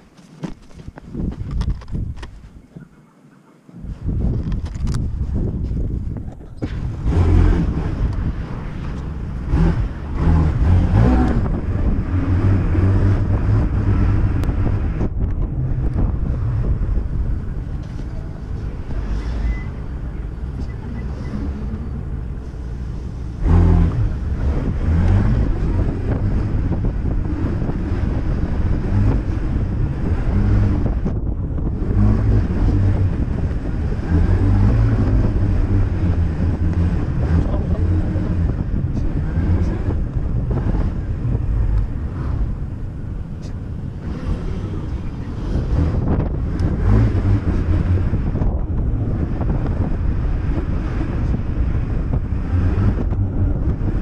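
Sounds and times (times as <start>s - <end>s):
wind buffeting microphone: 0.0s - 2.9s, 3.8s - 54.0s
tyres on road: 0.0s - 54.0s.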